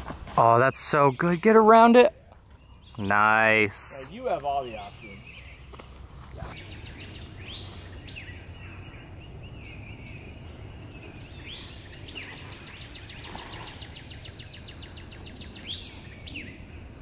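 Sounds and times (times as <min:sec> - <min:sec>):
birds whistling: 0:00.9 - 0:17.0
bird trill: 0:02.5 - 0:17.0.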